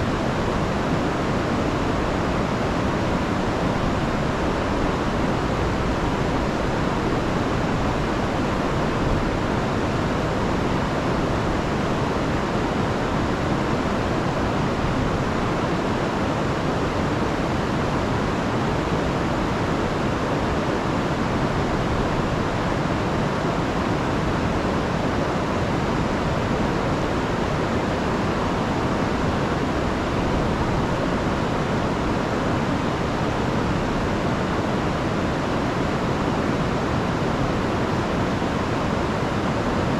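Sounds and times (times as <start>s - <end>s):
river rushing over falls: 0.0s - 39.9s.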